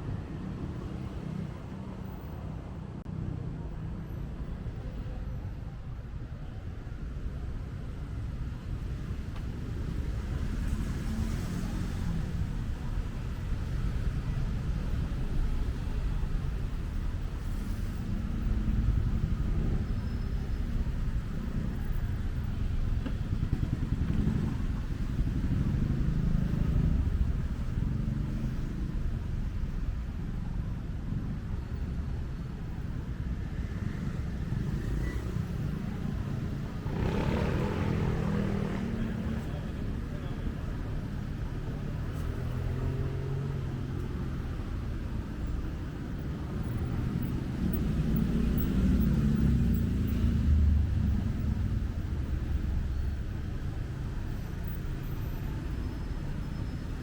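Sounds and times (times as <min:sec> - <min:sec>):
street traffic passing: 0:00.0 - 0:57.0.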